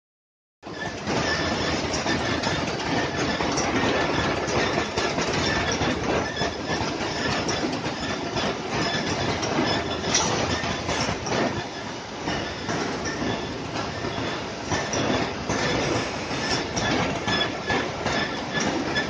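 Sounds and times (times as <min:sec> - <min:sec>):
conveyor rollers rattling: 0:00.6 - 0:19.0.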